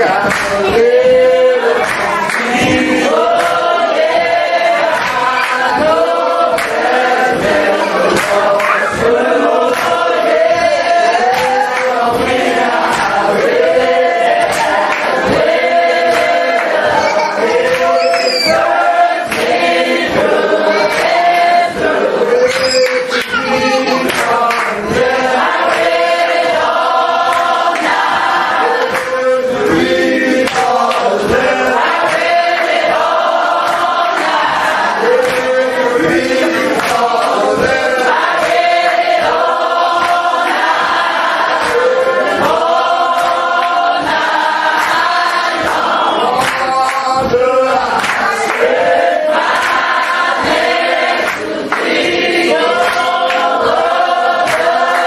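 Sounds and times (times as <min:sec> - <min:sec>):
congregation singing gospel: 0:00.0 - 0:55.0
steady rhythmic beat: 0:00.0 - 0:55.0.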